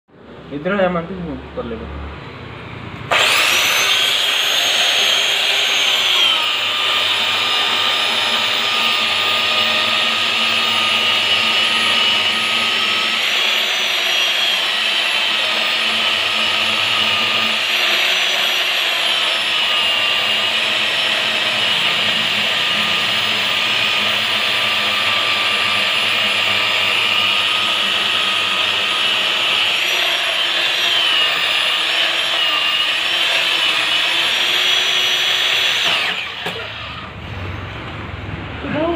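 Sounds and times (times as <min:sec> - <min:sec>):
electric chainsaw cutting log: 0:03.1 - 0:37.2.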